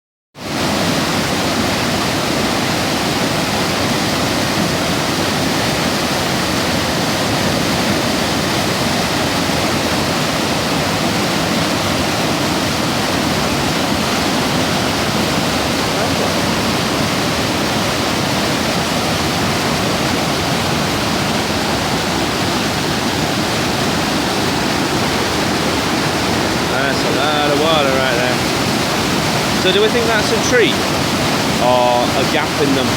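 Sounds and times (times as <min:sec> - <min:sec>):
river rushing over weir: 0:00.4 - 0:32.9.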